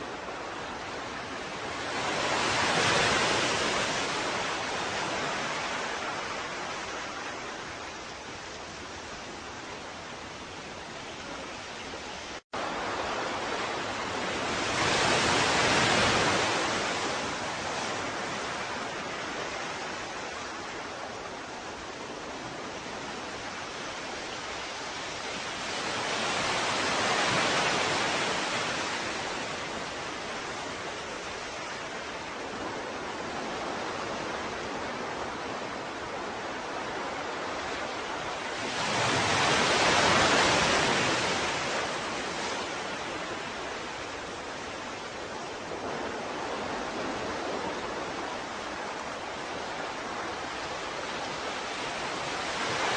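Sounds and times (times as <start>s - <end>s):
ocean waves breaking: 0.0s - 52.9s.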